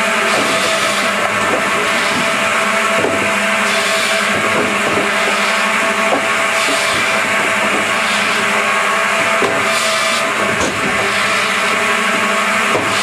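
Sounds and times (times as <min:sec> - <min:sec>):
circular saw blades humming: 0:00.0 - 0:13.0
saw cutting logs with hissing knocks: 0:00.0 - 0:13.0.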